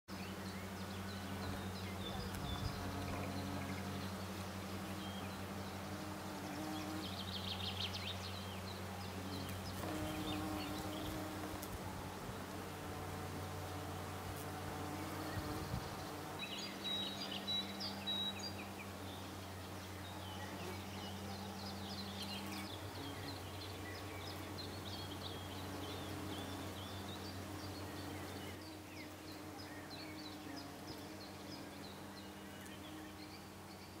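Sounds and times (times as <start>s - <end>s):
birds chirping: 0.1s - 34.0s.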